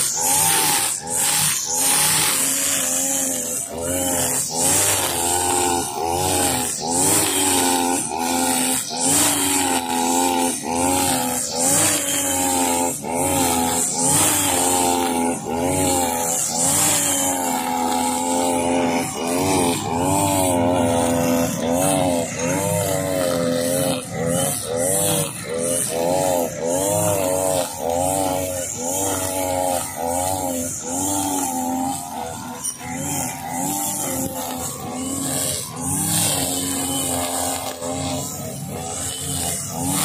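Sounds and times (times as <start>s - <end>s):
brush cutter engine at high revs: 0.0s - 40.0s.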